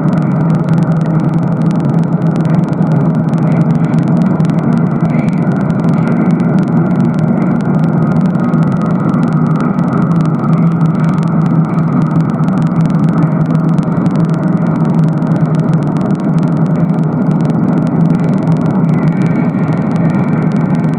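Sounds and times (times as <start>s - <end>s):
low hum: 0.0s - 20.9s
radio static crackle: 0.0s - 20.9s.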